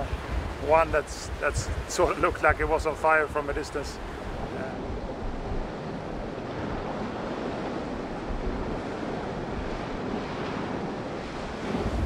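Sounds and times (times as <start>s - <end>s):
ocean waves: 0.0s - 12.0s
wind: 0.0s - 12.0s
wind buffeting microphone: 0.0s - 12.0s.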